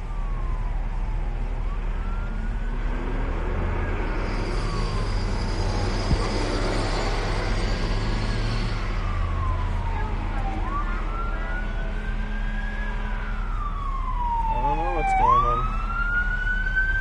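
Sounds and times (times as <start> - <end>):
distant sirens wailing: 0.0 - 17.0.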